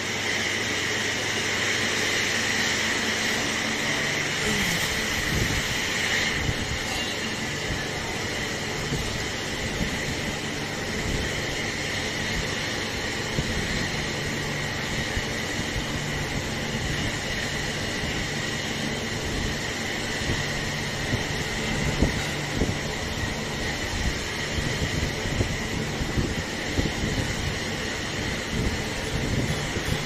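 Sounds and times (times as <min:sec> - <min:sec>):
workshop machinery droning: 0:00.0 - 0:30.0.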